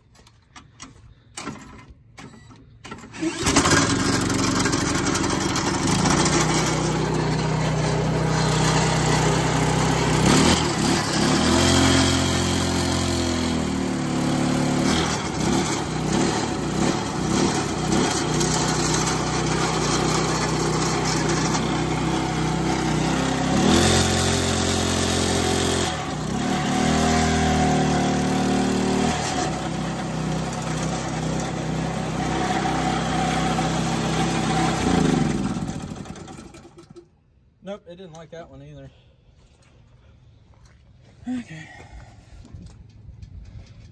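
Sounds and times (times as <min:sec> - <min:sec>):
small gas engine under load: 0:00.2 - 0:37.2.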